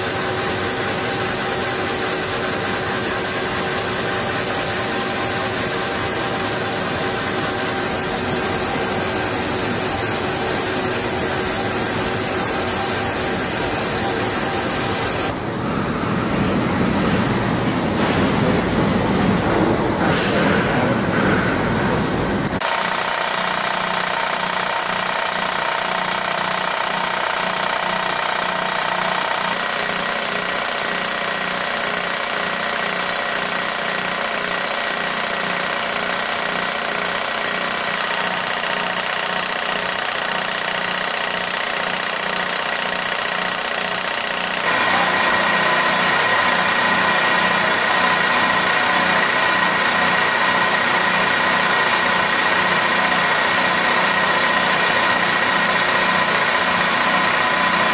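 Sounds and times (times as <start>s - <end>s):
perforation machine humming and pulsing: 0.0s - 57.9s.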